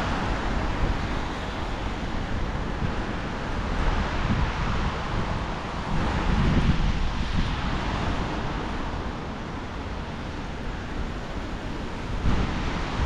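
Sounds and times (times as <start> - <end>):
rain falling on wet street: 0.0 - 13.0
wind buffeting microphone: 0.0 - 13.0.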